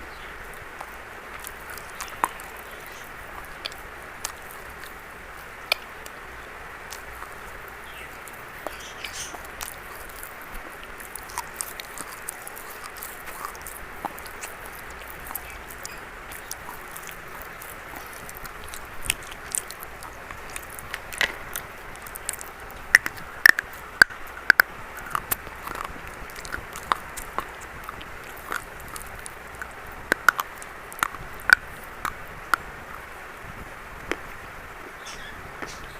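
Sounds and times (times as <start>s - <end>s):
person chewing crunchy biscuit: 0.0s - 33.2s.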